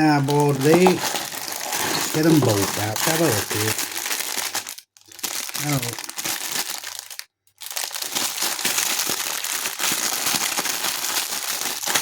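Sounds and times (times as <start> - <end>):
crinkly wrappers rustling: 0.0 - 12.0.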